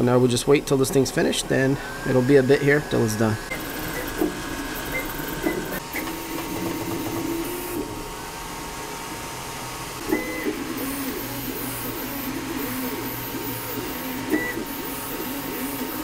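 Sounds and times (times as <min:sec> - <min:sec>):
printer motors whining: 0:00.6 - 0:16.0.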